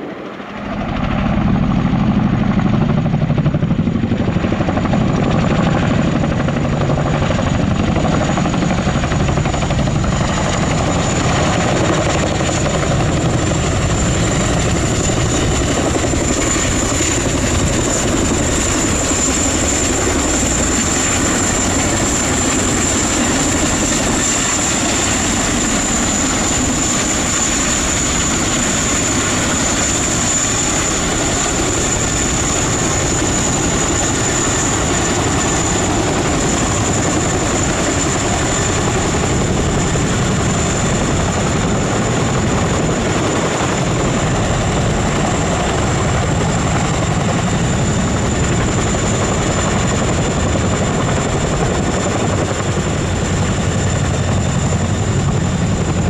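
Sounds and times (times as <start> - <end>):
helicopter engine whine: 0.0 - 56.0
helicopter rotors beating: 0.0 - 56.0.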